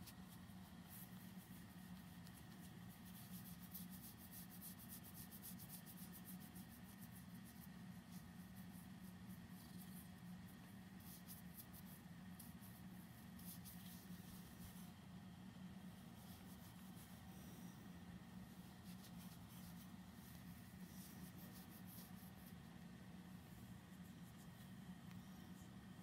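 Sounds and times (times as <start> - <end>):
fingers scratching cat fur: 0.0 - 15.0, 15.8 - 22.8
low steady hum: 0.0 - 26.0.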